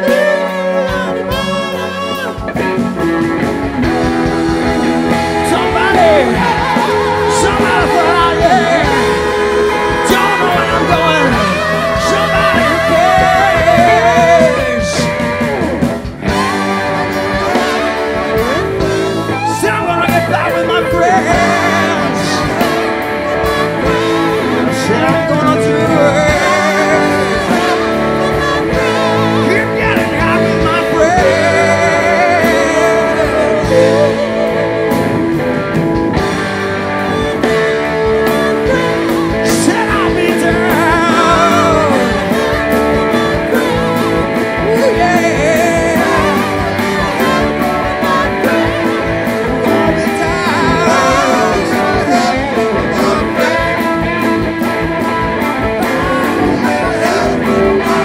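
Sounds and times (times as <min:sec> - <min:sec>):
people singing: 0:00.0 - 0:02.7, 0:03.8 - 0:35.4, 0:36.2 - 0:58.0
bass guitar: 0:00.0 - 0:58.0
drums: 0:00.0 - 0:58.0
electric guitars: 0:00.0 - 0:58.0.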